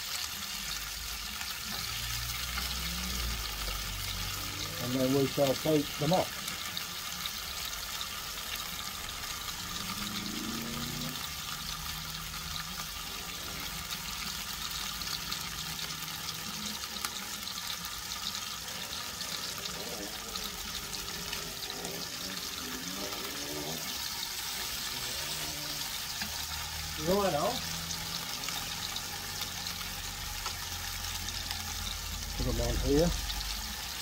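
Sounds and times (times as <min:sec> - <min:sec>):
ribs sizzling: 0:00.0 - 0:34.0.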